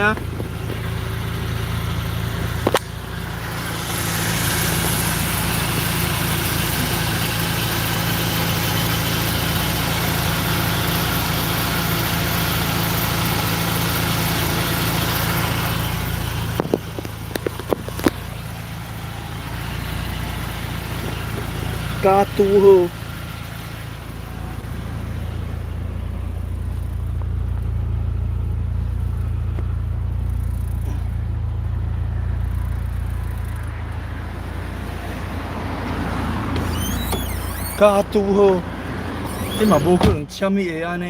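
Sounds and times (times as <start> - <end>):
car engine hum: 0.0 - 41.0
road and tyre noise: 0.0 - 41.0.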